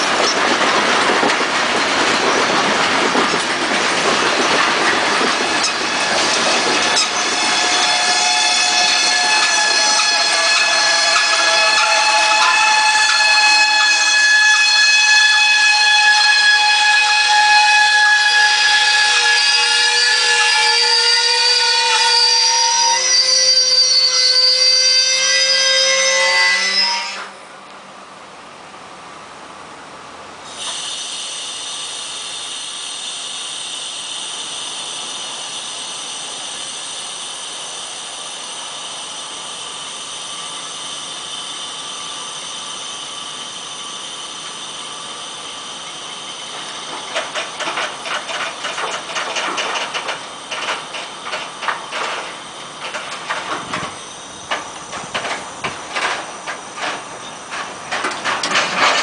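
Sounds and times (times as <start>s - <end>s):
train cars clanking and rattling: 0.0s - 27.4s, 30.5s - 59.0s
train brakes hissing: 1.5s - 27.5s, 30.4s - 59.0s.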